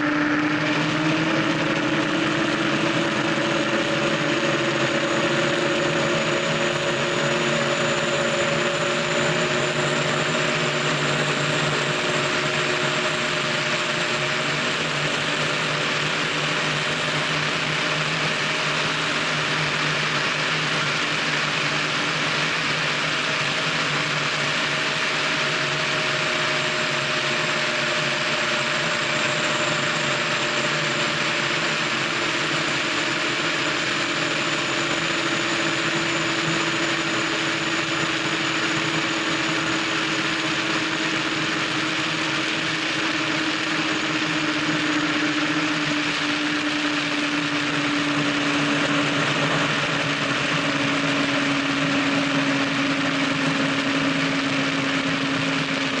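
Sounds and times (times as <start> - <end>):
boat engines at high speed: 0.0 - 56.0.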